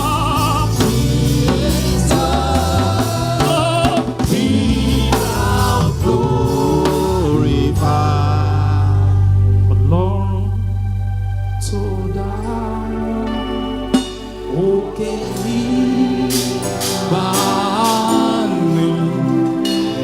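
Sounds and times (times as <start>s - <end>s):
voices singing gospel song: 0.0s - 10.6s, 11.6s - 20.0s
band with bass and drums: 0.0s - 20.0s.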